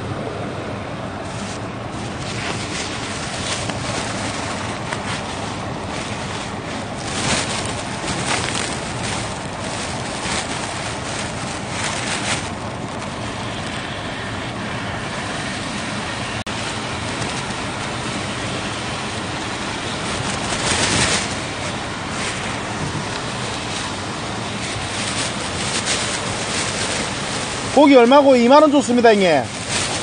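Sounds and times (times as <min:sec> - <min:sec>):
wind buffeting microphone: 0:00.0 - 0:30.0
waves washing on shore: 0:00.8 - 0:30.0.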